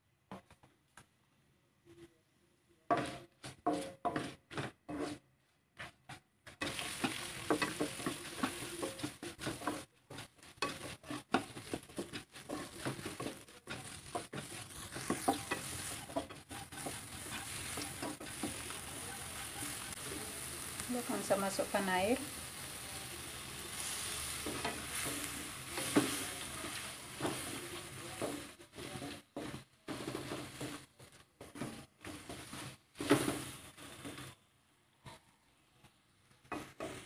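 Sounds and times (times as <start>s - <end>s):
stirring strokes in wok: 2.8s - 37.0s
shrimp shells sizzling in oil: 6.5s - 34.7s, 35.5s - 37.0s.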